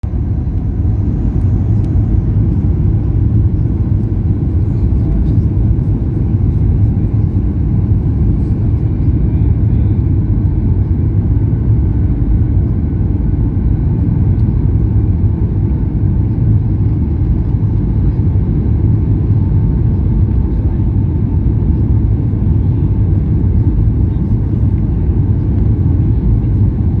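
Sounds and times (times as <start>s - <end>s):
airliner engines rumbling: 0.0s - 27.0s.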